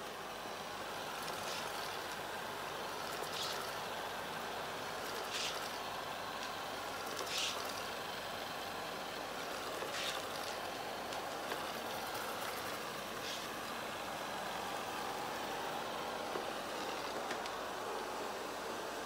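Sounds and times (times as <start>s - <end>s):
robot vacuum whirring: 1.1s - 2.3s, 2.9s - 4.2s, 4.8s - 19.0s.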